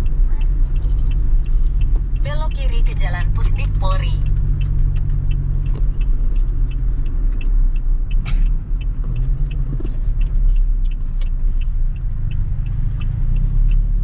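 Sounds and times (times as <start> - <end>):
car engine and road drone: 0.0 - 14.0
turn signal clicking: 0.0 - 14.0.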